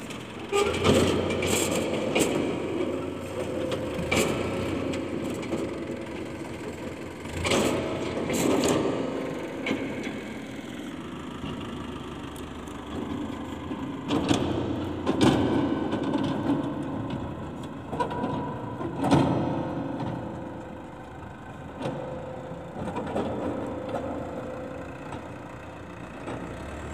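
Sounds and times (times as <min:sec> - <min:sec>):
diesel tractor engine running: 0:00.0 - 0:26.9.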